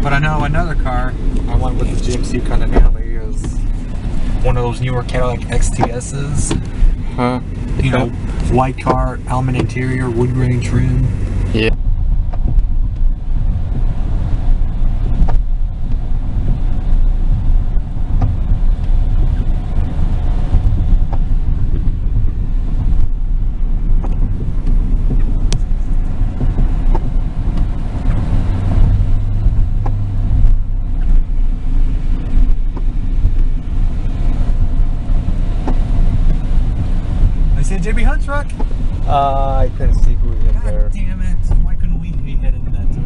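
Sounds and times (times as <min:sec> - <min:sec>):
engine and road rumble inside truck: 0:00.0 - 0:43.0.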